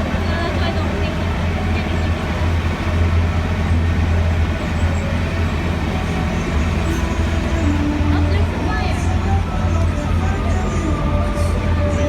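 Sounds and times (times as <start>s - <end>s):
road rumble: 0.0s - 12.0s
tram engine drone: 0.0s - 12.0s.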